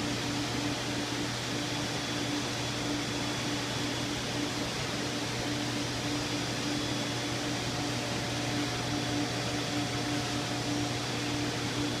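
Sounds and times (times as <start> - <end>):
steady machine hum with hiss: 0.0 - 12.0.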